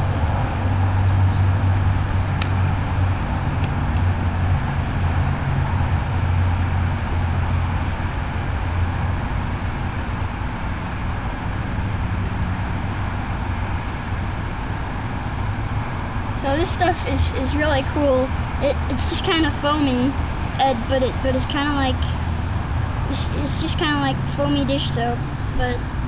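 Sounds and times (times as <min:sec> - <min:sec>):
low engine rumble: 0:00.0 - 0:26.0
outdoor background noise: 0:00.0 - 0:26.0.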